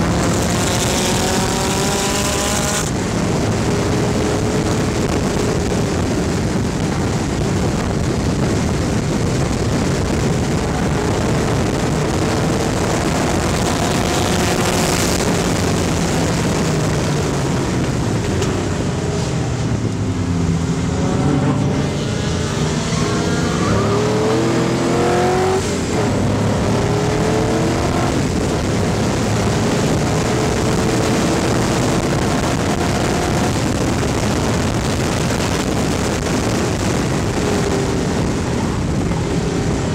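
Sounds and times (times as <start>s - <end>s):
race car engine revving: 0.0s - 39.9s
wind rush: 0.0s - 39.9s.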